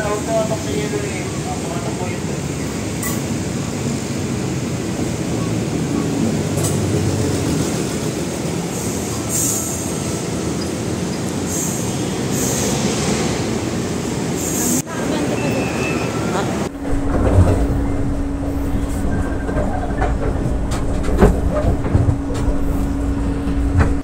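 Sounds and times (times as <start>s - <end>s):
diesel train rumbling past: 0.0s - 24.0s.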